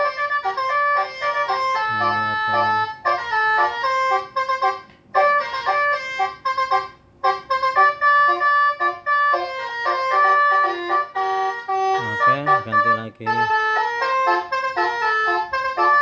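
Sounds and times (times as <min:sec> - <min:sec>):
electronic horn playing melody: 0:00.0 - 0:16.0.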